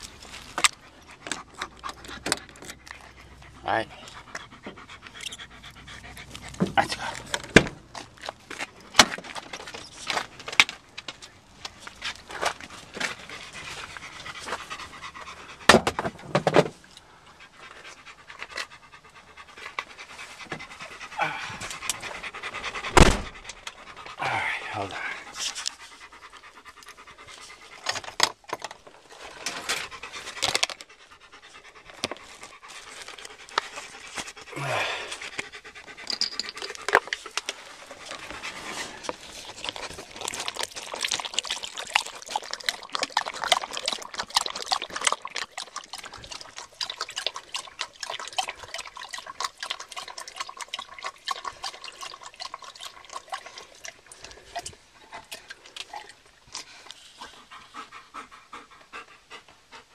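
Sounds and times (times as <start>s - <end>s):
dog panting: 0.0s - 16.4s, 17.0s - 59.9s.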